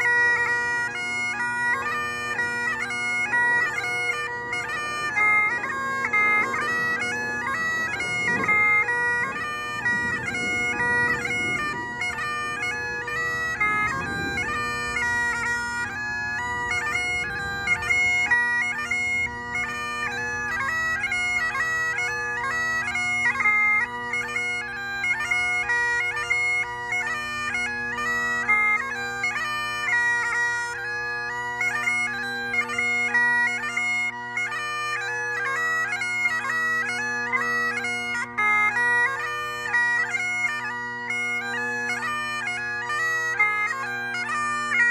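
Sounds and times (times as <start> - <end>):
bagpipe chanter melody: 0.0 - 44.9
bagpipe drones humming: 0.0 - 44.9.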